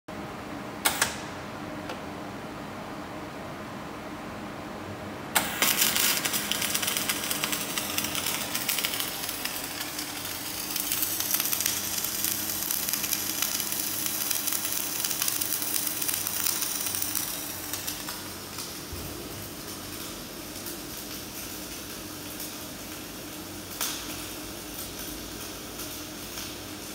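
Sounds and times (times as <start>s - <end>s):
low machine hum: 0.1s - 26.9s
welding arc crackling sizzle: 5.3s - 26.9s.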